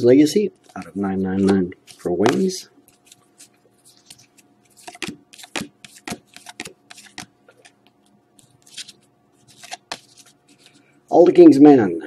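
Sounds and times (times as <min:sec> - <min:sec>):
cards flicking against each other: 0:00.6 - 0:10.8.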